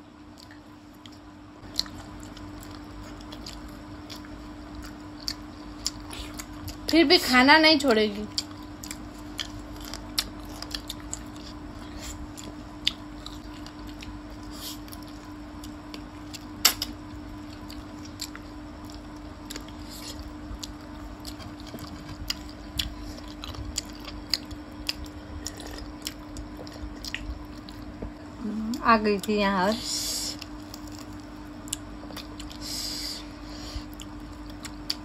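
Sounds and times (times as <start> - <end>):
steady low hum: 0.0 - 35.0
wet chewing and squishing: 0.3 - 7.0, 8.3 - 28.2, 30.3 - 32.7, 33.8 - 35.0.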